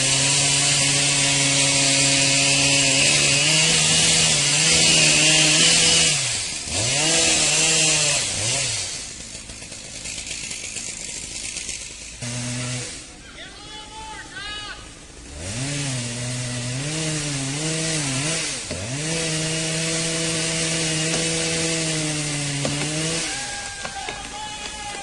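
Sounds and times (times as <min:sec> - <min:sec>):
chainsaw revving: 0:00.0 - 0:13.2, 0:15.1 - 0:23.8.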